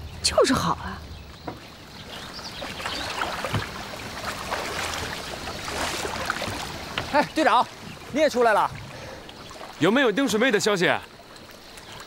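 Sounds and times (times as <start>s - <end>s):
water splashing around wooden boat: 1.1s - 12.0s.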